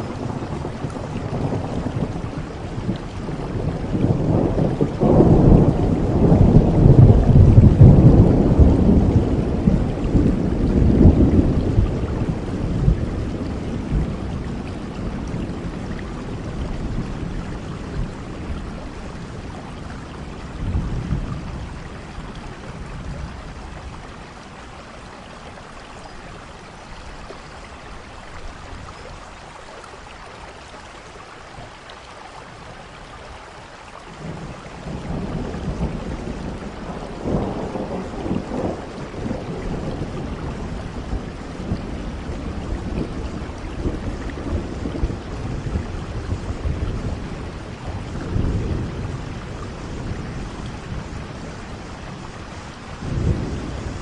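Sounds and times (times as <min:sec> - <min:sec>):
thunder rumbling: 0:00.0 - 0:24.8, 0:34.2 - 0:54.0
steady rain falling: 0:00.0 - 0:54.0.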